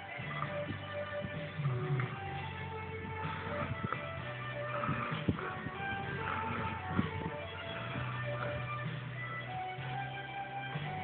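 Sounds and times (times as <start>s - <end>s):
instrumental guitar music: 0.0s - 11.0s.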